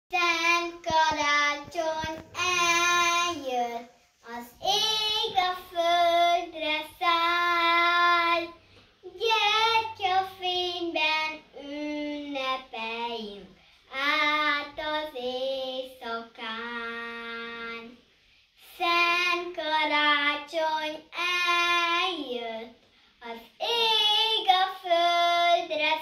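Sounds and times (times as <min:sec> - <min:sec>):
girl singing unaccompanied: 0:00.1 - 0:26.0.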